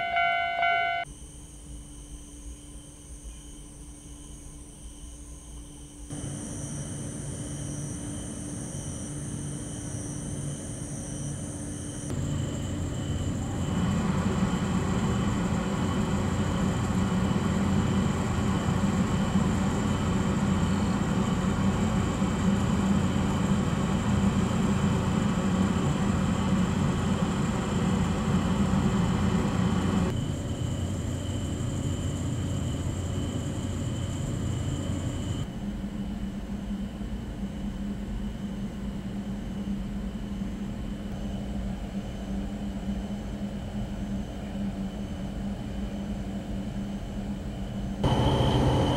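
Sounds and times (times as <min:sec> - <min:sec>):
train mechanical hum: 0:00.0 - 0:48.9.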